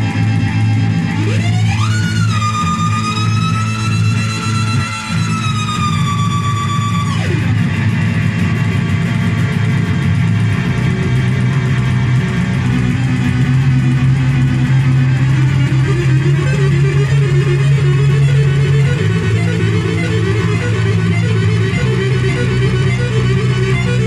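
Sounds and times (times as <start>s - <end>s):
synthesizer noise music: 0.0s - 24.0s.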